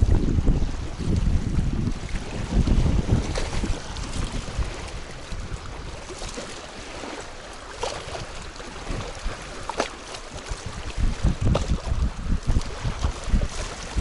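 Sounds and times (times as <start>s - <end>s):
wind rushing over microphone: 0.0s - 7.2s, 8.0s - 14.0s
small waves lapping: 0.0s - 14.0s.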